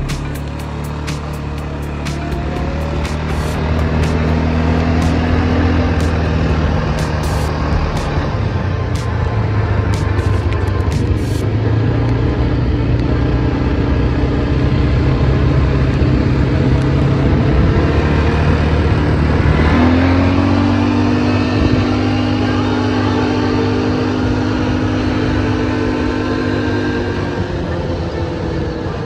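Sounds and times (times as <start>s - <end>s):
atv engine running: 0.0s - 29.0s
wind and road noise: 0.0s - 29.0s.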